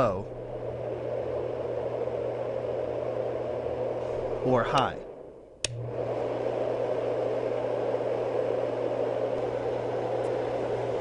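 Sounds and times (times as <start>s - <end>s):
low steady hum: 0.0s - 11.0s
white noise machine fan rushing: 0.0s - 11.0s.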